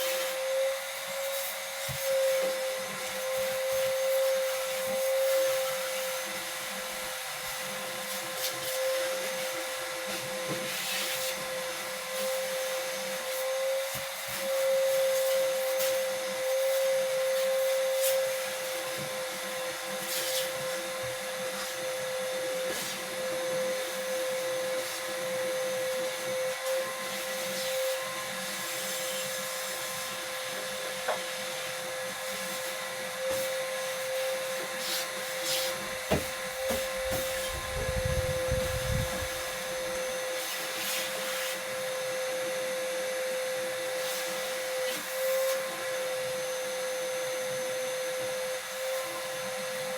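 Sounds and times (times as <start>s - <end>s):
electric polishing machine whine: 0.0s - 49.9s.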